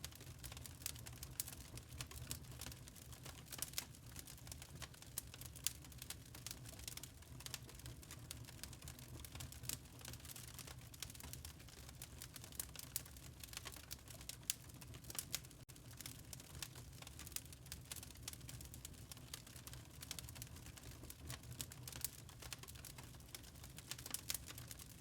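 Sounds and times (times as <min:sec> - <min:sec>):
log fire crackling: 0:00.0 - 0:25.0
low rumble of fire: 0:00.0 - 0:25.0.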